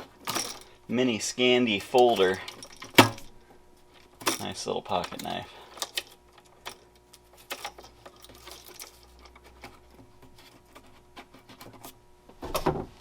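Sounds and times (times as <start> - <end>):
clicks and rustles of handling tools: 0.0 - 0.8, 1.7 - 12.8
faint steady hum: 0.0 - 13.0.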